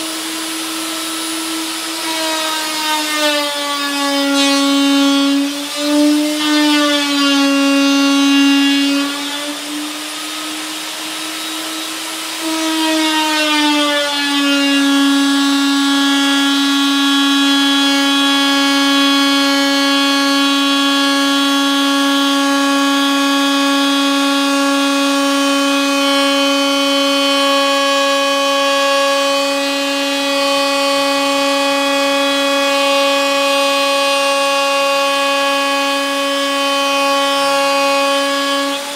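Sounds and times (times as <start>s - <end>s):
router whining: 0.0s - 38.9s.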